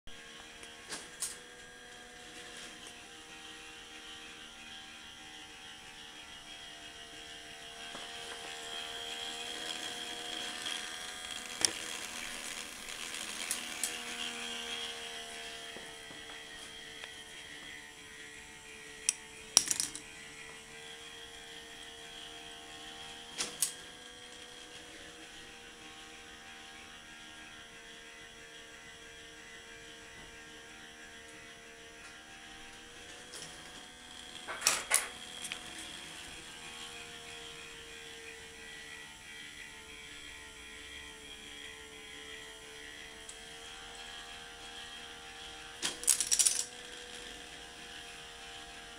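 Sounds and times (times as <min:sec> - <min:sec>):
small electric motor humming: 0:00.1 - 0:48.9.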